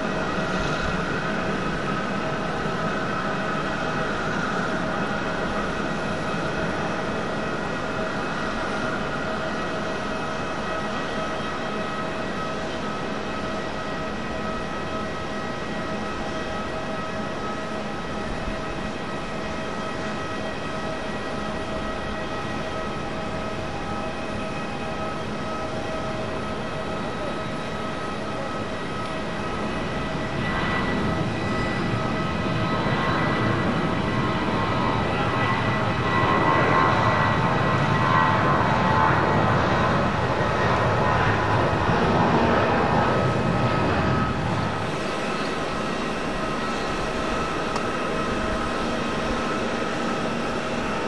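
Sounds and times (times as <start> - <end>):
jet engines roaring and whining: 0.0 - 51.0.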